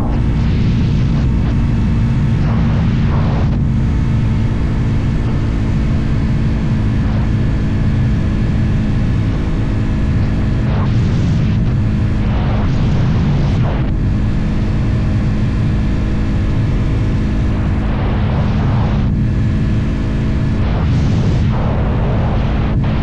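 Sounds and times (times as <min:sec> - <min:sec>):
motorcycle engine cruising: 0:00.0 - 0:23.0
wind noise on microphone: 0:00.0 - 0:23.0.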